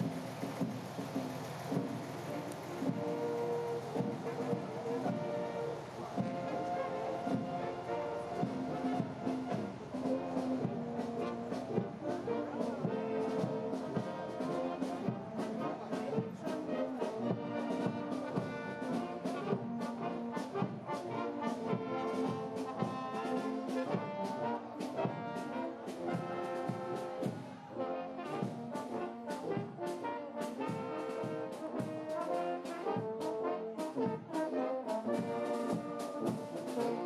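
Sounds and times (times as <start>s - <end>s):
marching brass band: 0.0s - 37.0s.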